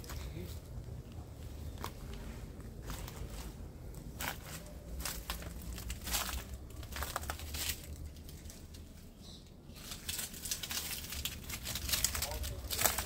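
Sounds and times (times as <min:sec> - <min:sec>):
footsteps crunching dry leaves: 0:01.6 - 0:13.0.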